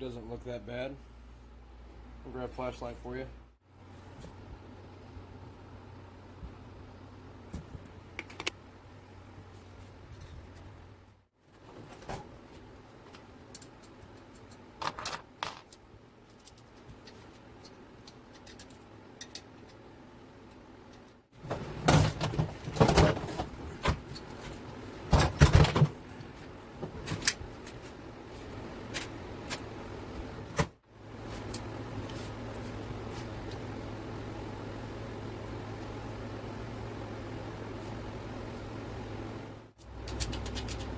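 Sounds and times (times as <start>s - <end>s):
steady low hum: 0.0s - 14.8s, 15.5s - 40.9s.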